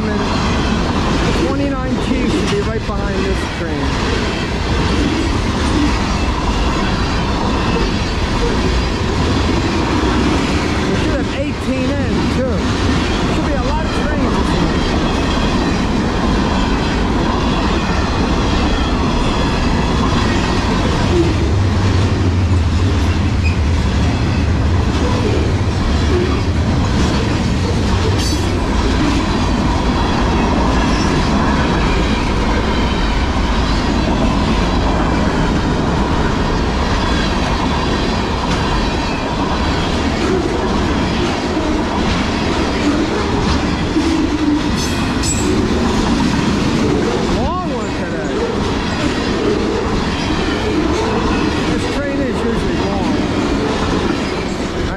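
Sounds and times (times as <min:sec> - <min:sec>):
train wheels rumbling on rails: 0:00.0 - 0:54.9
wheels clacking over rail joints: 0:00.0 - 0:54.9.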